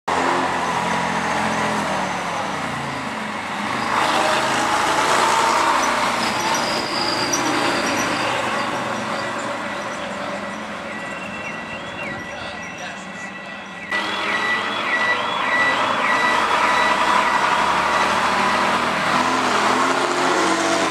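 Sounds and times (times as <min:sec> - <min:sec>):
double-decker bus driving past: 0:00.1 - 0:20.9.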